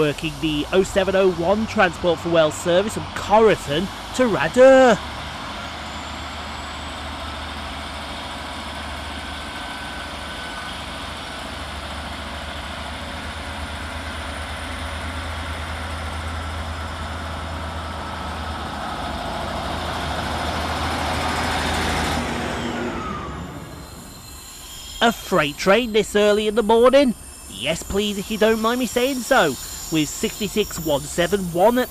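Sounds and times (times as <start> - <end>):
diesel railcar engine pulling away: 0.0 - 31.9.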